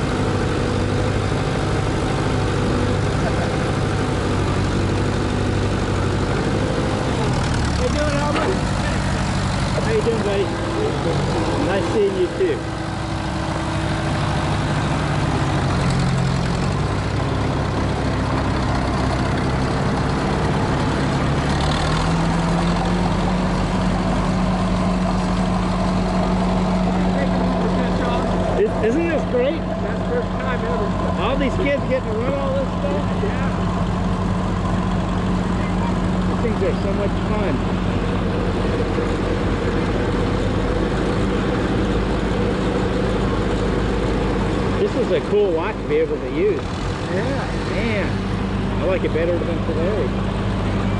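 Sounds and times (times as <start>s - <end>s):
heavy equipment engines running: 0.0s - 50.9s.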